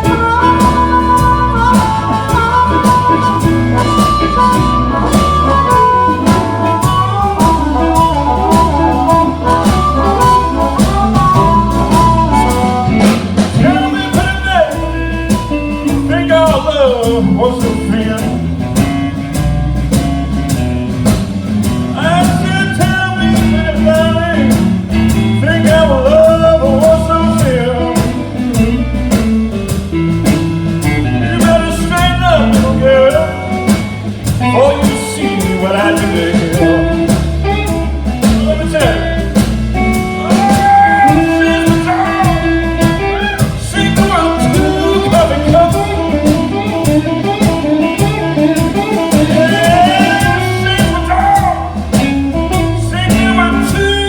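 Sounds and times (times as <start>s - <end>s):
guitar accompaniment: 0.0s - 54.0s
harmonica solo: 0.0s - 54.0s
steady beat: 0.0s - 54.0s.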